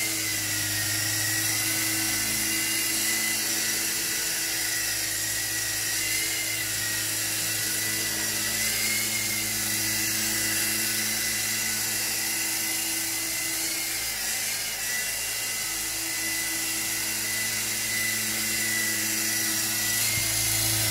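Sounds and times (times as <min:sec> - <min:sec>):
toy helicopter motor whine: 0:00.0 - 0:20.9.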